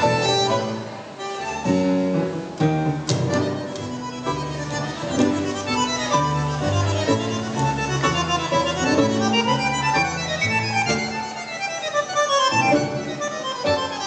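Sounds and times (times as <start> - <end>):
double bass line: 0.0 - 14.0
piano: 0.0 - 14.0
tango orchestra playing: 0.0 - 14.0.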